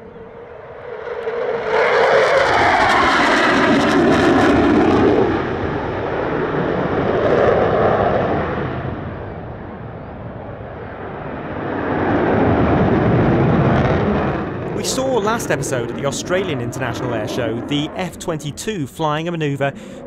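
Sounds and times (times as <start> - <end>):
fighter jet roaring past: 0.0 - 20.0.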